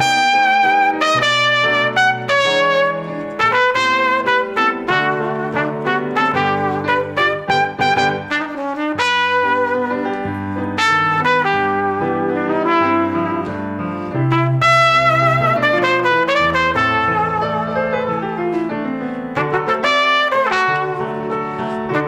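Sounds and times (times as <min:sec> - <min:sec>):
instrumental salsa duet: 0:00.0 - 0:22.0.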